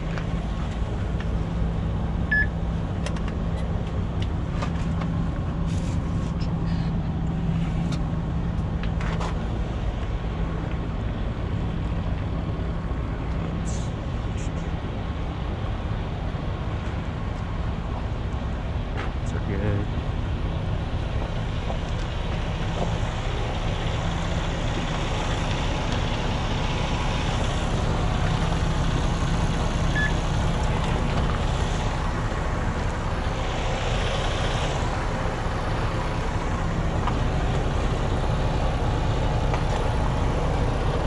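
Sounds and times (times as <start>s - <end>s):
diesel truck engine idling: 0.0s - 41.0s.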